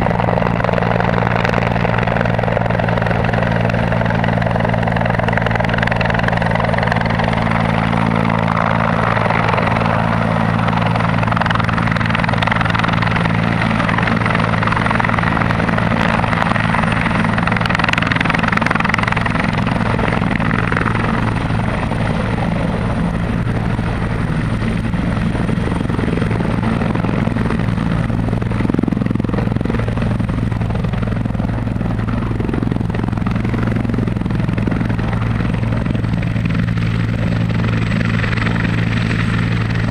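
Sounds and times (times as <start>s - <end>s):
helicopter rotor: 0.0s - 39.9s
high turbine whine: 0.0s - 39.9s.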